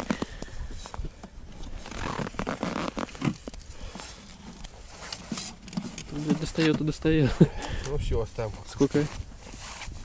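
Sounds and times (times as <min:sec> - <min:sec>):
rustling and scraping: 0:00.0 - 0:10.0.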